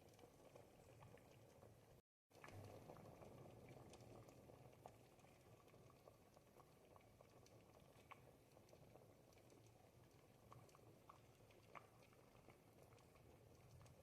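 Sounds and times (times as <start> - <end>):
soup bubbling in a pot: 0.0 - 14.0.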